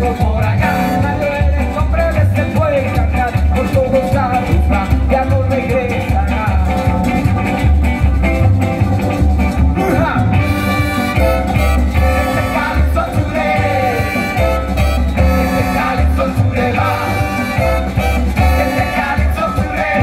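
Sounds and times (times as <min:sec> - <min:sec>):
person singing: 0:00.0 - 0:07.1, 0:09.8 - 0:10.9, 0:11.7 - 0:20.0
live dance band music: 0:00.0 - 0:20.0
pulsing bass beat: 0:00.0 - 0:20.0.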